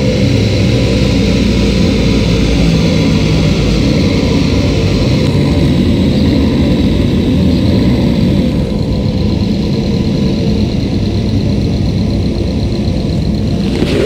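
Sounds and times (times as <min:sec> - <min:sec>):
engine rough mechanical rumble: 0:00.0 - 0:14.0
faint high whine: 0:00.0 - 0:14.0.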